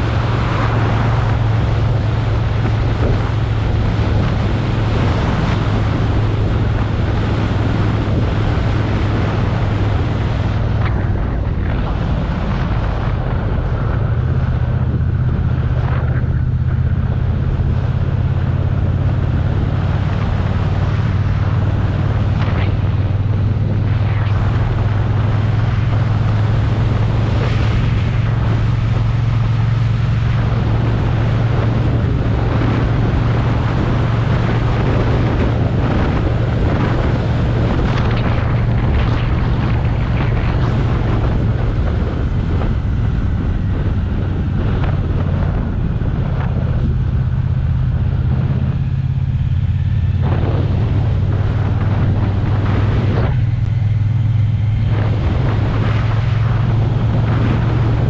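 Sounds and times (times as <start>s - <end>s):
motorcycle engine running: 0.0s - 58.0s
wind on microphone: 0.0s - 58.0s.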